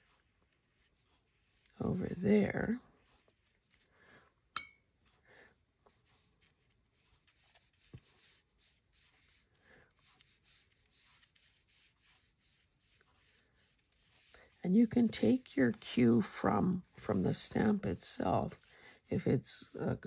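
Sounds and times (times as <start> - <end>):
paintbrush brushing paper: 0.0 - 4.0, 5.6 - 19.7.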